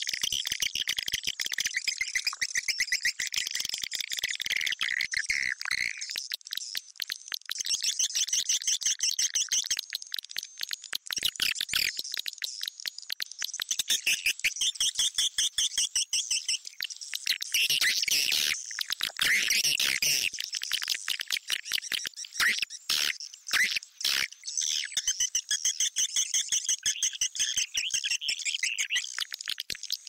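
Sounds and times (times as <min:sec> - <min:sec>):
high-pitched bird chirping twitters: 0:00.1 - 0:30.0.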